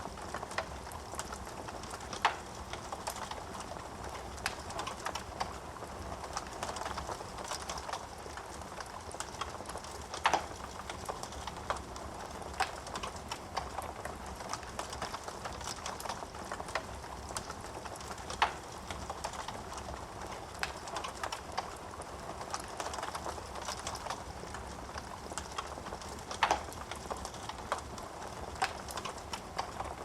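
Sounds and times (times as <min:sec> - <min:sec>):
fire popping and snapping: 0:00.0 - 0:30.0.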